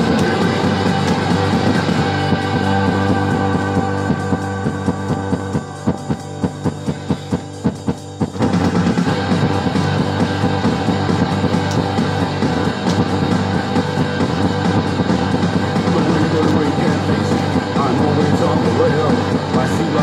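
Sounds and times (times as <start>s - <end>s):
rock band playing: 0.0s - 20.0s
steady drum beat: 0.0s - 20.0s.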